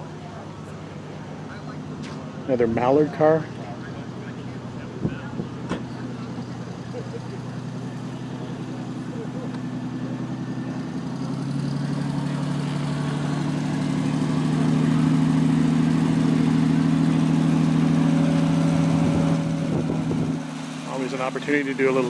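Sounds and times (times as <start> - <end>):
sports car engine idling: 0.0 - 22.0.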